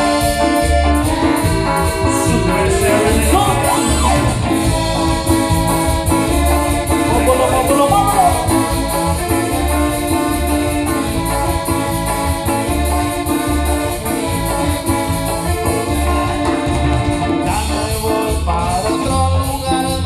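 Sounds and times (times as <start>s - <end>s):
latin dance band playing live: 0.0s - 20.0s.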